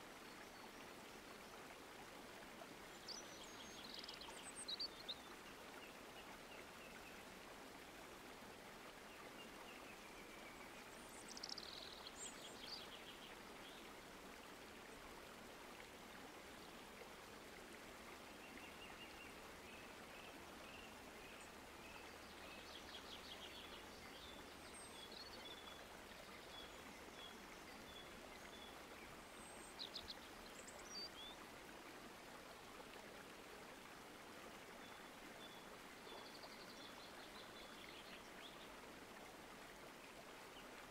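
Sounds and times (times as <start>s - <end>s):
low outdoor hiss: 0.0s - 40.9s.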